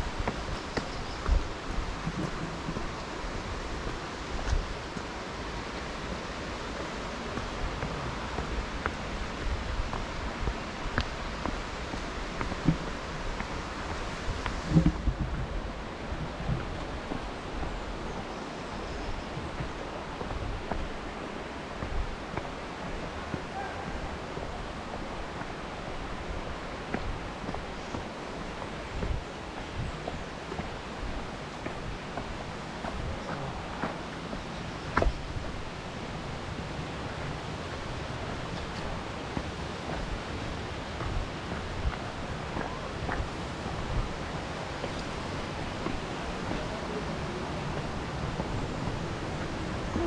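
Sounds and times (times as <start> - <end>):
steady rushing noise: 0.0 - 50.0
wind and road noise: 0.0 - 50.0.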